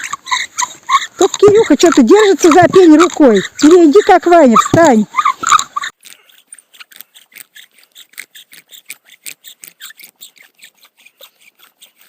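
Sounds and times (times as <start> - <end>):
wooden spindle rasping and squeaking: 0.0 - 12.0.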